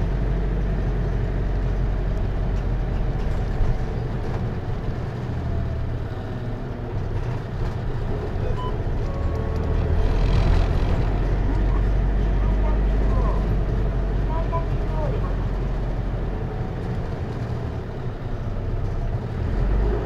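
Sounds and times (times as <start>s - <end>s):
diesel engine running: 0.0s - 20.0s
road noise: 0.0s - 20.0s.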